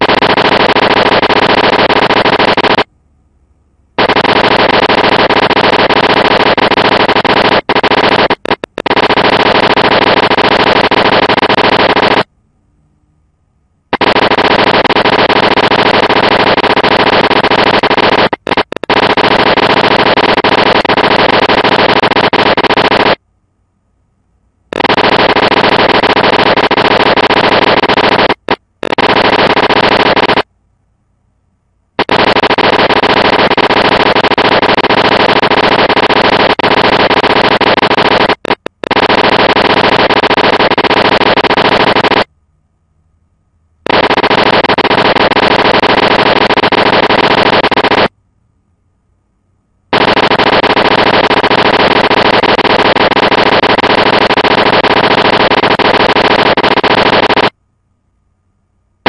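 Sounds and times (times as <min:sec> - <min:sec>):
rapid typewriter clacking: 0:00.0 - 0:02.8, 0:04.0 - 0:12.2, 0:13.9 - 0:23.2, 0:24.8 - 0:30.4, 0:32.0 - 0:42.3, 0:43.9 - 0:48.1, 0:49.9 - 0:57.5.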